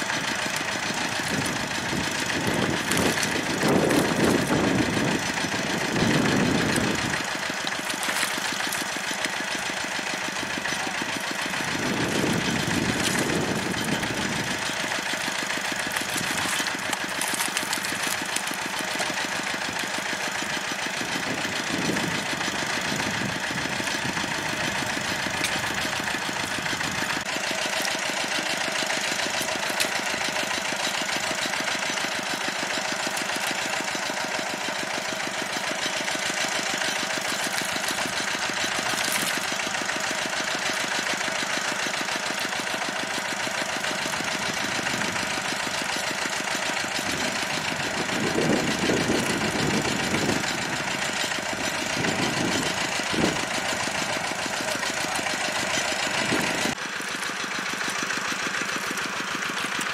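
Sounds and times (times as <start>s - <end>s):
water pump engine knocking: 0.0s - 59.9s.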